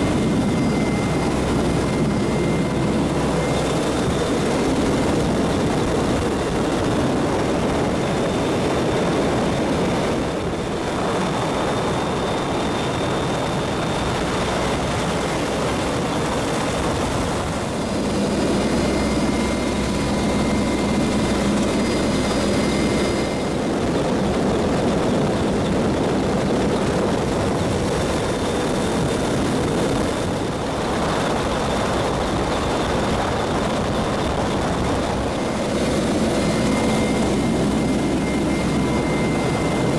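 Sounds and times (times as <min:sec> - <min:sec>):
helicopter engines and rotor: 0:00.0 - 0:39.9.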